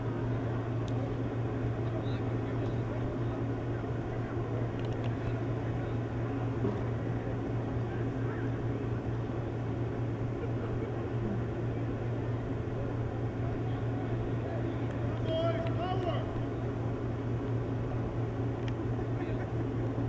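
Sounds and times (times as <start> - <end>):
steady low drone: 0.0 - 20.0.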